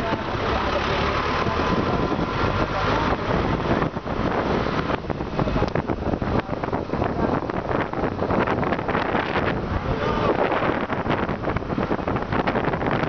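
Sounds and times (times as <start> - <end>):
road noise of vehicle at speed: 0.0 - 13.0
wind buffeting microphone: 0.0 - 13.0.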